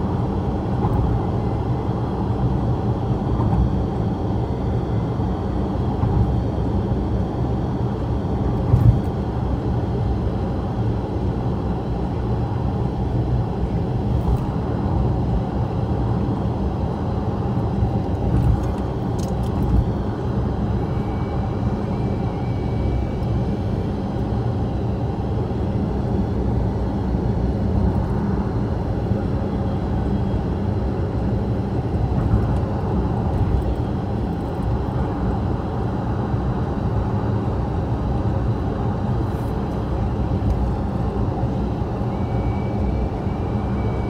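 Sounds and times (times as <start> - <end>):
car cabin road rumble: 0.0 - 7.1, 8.2 - 44.0.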